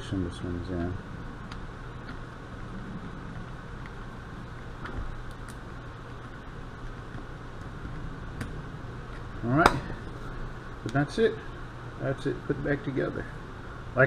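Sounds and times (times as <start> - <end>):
workshop hum and hiss: 0.0 - 14.0.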